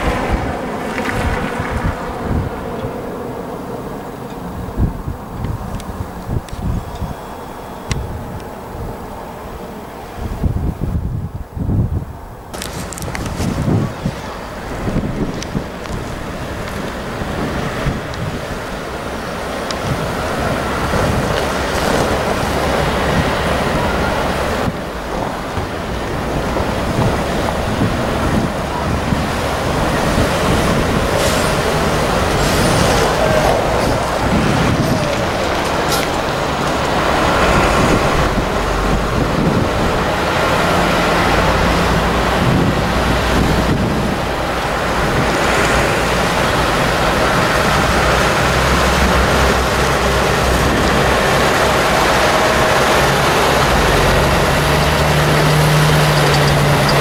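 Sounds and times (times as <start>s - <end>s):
diesel engines humming: 0.0s - 57.0s
road noise: 0.0s - 57.0s.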